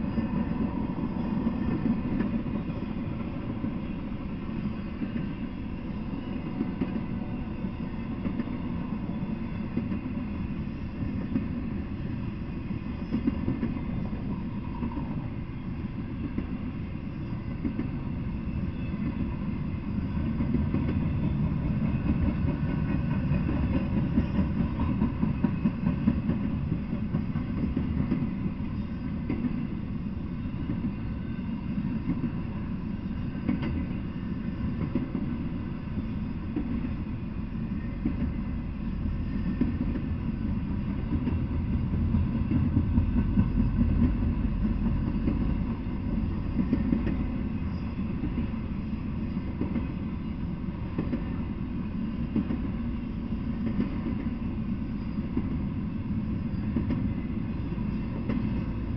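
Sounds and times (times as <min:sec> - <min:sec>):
freight train wheels rumbling on rails: 0:00.0 - 0:58.9.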